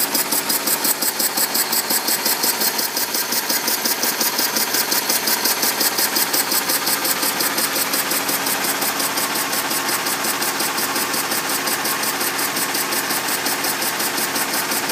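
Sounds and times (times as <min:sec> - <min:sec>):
steam engine exhaust chuffing: 0:00.0 - 0:14.9.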